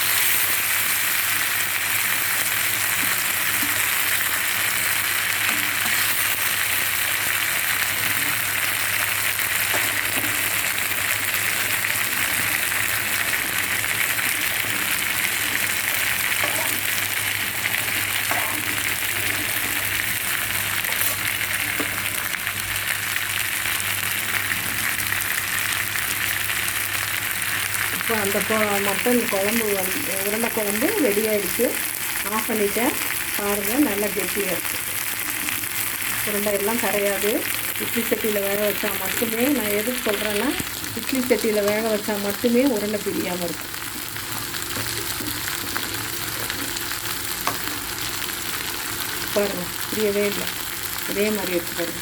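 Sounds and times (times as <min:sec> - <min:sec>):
meatballs sizzling in a pan: 0:00.0 - 0:52.0.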